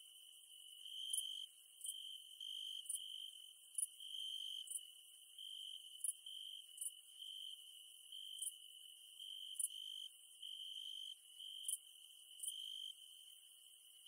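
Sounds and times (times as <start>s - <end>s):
insects high-pitched trill: 0.4s - 13.4s.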